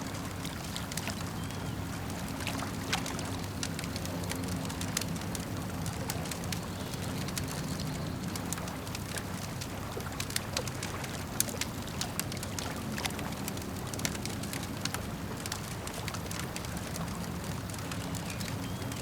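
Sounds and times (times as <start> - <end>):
lake water lapping: 0.0 - 19.0
campfire crackling and popping: 0.1 - 19.0.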